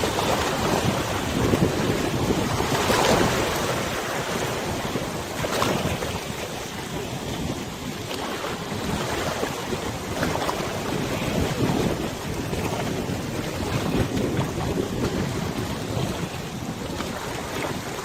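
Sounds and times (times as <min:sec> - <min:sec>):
river waves rushing and lapping: 0:00.0 - 0:18.0
wind buffeting the microphone: 0:00.0 - 0:18.0.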